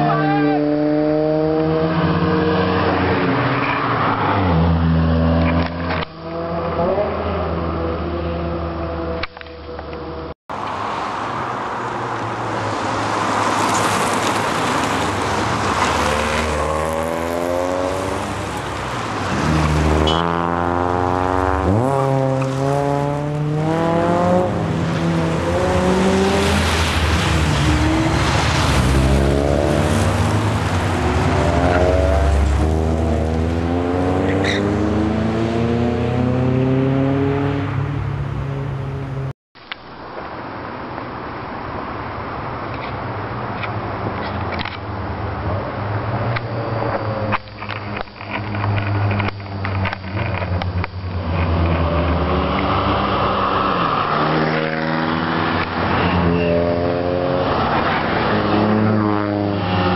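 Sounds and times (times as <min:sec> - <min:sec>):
car engines revving past: 0:00.0 - 0:39.3, 0:44.4 - 0:59.9.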